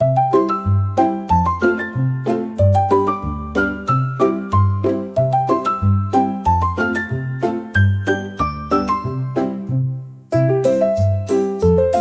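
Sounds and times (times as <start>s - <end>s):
upbeat background music: 0.0s - 12.0s.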